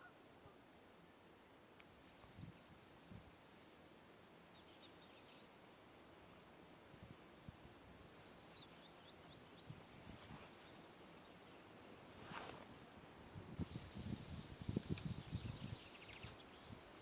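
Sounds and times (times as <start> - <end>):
faint songbird song: 0.0 - 17.0.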